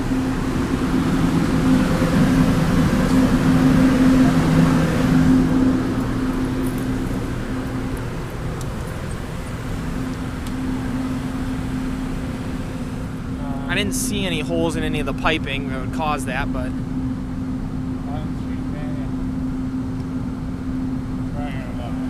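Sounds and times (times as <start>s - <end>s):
farm machinery droning: 0.0s - 22.0s.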